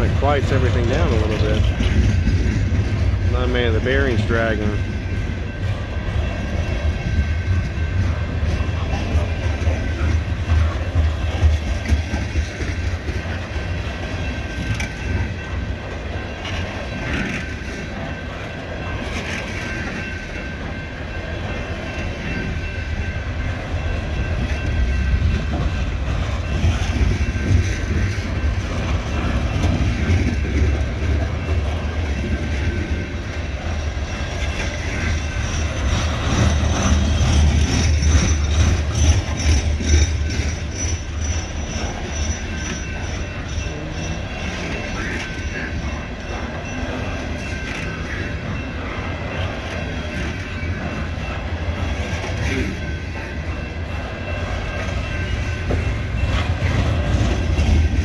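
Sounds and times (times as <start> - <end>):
steel wheels rumbling on rail: 0.0 - 58.0
wheels clicking over rail joints: 0.0 - 58.0.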